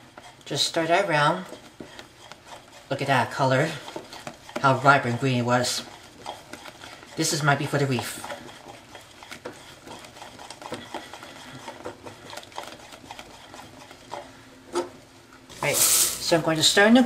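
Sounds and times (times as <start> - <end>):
wooden spoon scraping a pot: 0.0 - 17.0.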